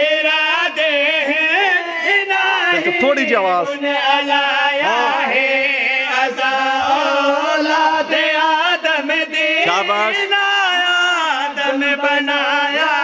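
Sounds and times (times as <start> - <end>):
man chanting melismatically: 0.0 - 13.0.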